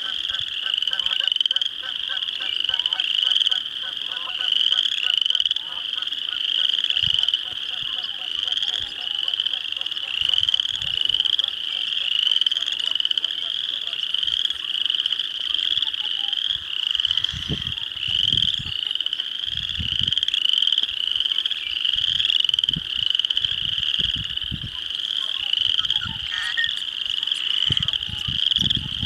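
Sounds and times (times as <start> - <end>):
chorus of frogs trilling: 0.0 - 29.0.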